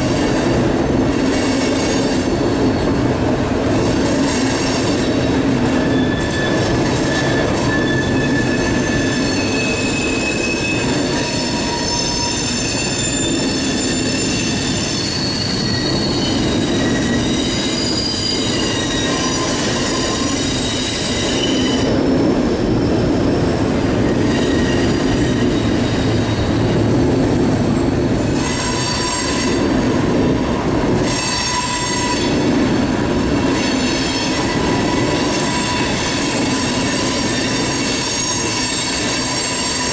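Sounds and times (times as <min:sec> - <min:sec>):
freight train rumbling past: 0:00.0 - 0:39.9
train wheels squealing: 0:00.0 - 0:39.9.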